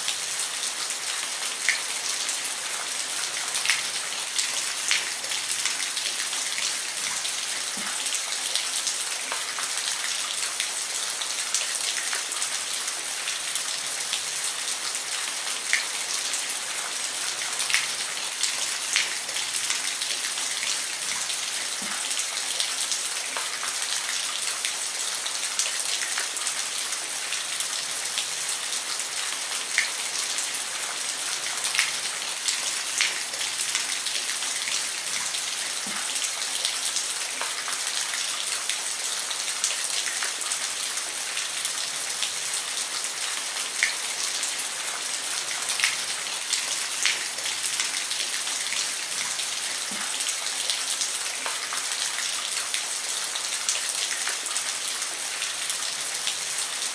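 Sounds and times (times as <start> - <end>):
rain hissing on a roof: 0.0 - 56.9.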